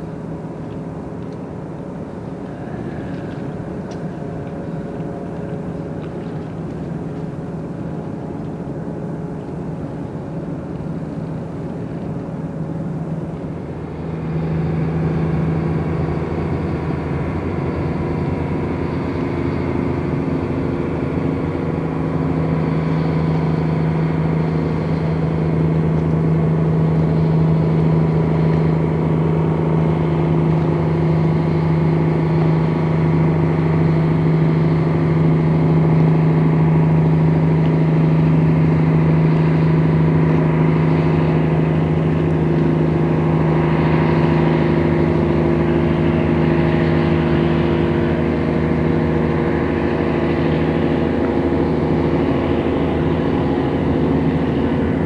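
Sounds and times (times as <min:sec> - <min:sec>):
ship engine drone: 0:00.0 - 0:55.0.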